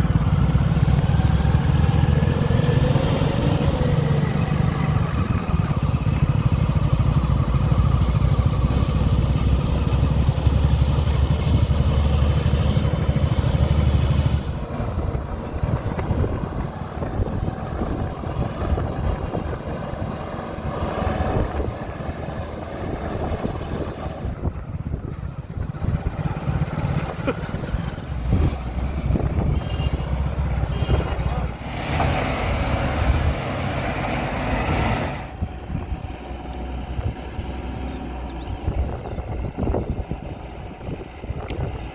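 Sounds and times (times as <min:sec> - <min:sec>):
diesel engine working hard: 0:00.0 - 0:41.9.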